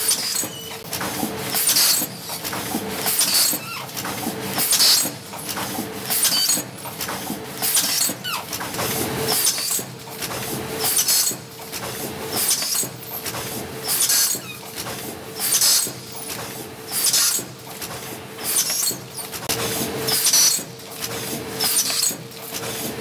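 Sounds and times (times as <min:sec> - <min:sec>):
mechanical hum: 0:00.0 - 0:23.0
packing machine strokes: 0:00.0 - 0:23.0.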